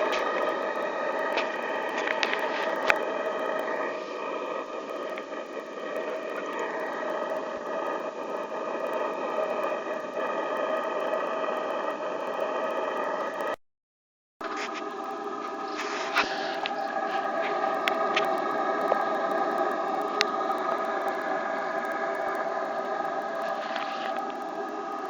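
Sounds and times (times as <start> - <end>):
gas torch flame roaring: 0.0 - 13.6, 14.4 - 25.0.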